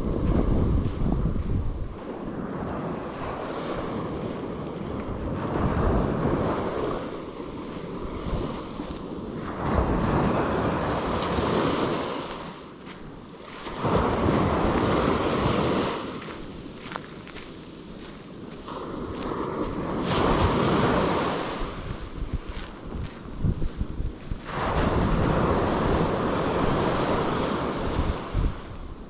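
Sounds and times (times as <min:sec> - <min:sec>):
wind rumble on microphone: 0:00.0 - 0:29.0
small waves breaking on shore: 0:01.9 - 0:28.8.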